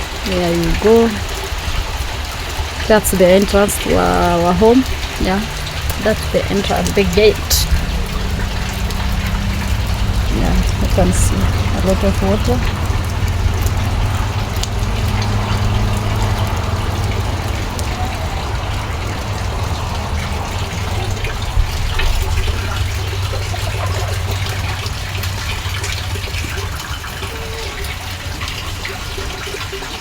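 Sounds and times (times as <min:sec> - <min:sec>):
rain falling: 0:00.0 - 0:30.0
rainwater gushing into a tank: 0:00.0 - 0:30.0.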